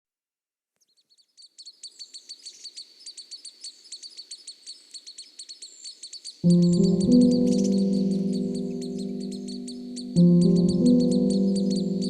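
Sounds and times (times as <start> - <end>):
high-pitched bird chirps: 1.4 - 12.0.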